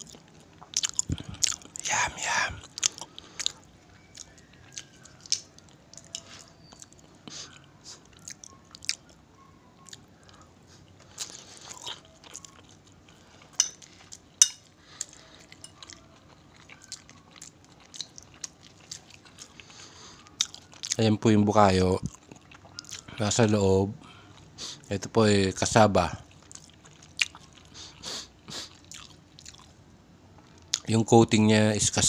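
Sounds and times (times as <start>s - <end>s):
close-up chewing and mouth sounds: 0.0s - 21.2s, 22.0s - 23.4s, 26.2s - 30.9s.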